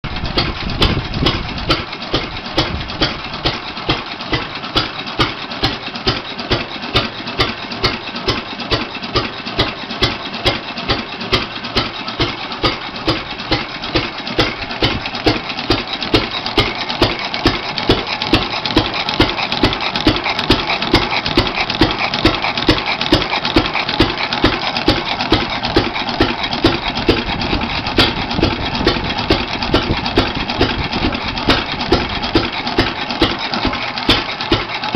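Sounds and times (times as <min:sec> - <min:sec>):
stationary gas engine beating: 0:00.0 - 0:34.9
sharp mechanical clicks: 0:00.1 - 0:34.9.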